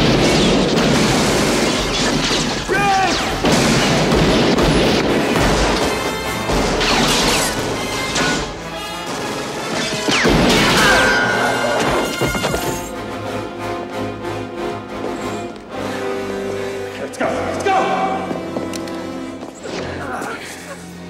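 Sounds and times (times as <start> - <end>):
orchestral music: 4.1 - 21.0.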